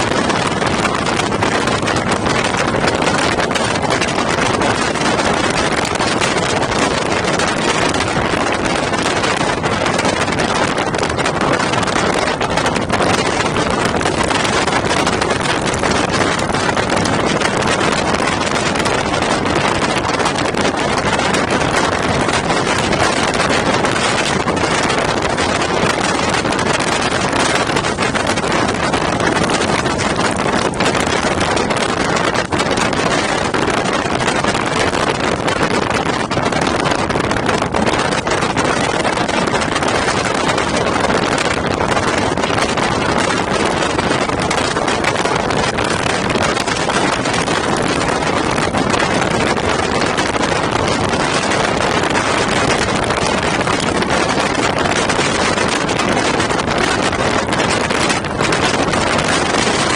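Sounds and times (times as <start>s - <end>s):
motorcycle engine: 0.0s - 59.9s
wind rushing on microphone: 0.0s - 59.9s.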